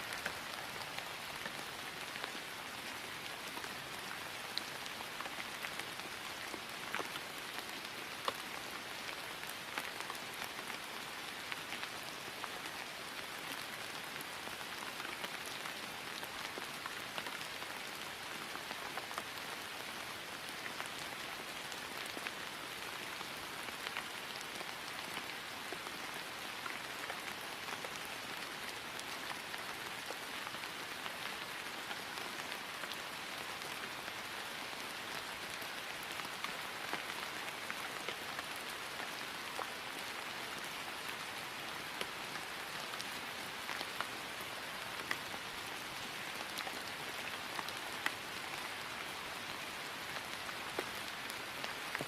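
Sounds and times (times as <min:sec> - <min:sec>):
rain falling on grass: 0:00.0 - 0:52.0.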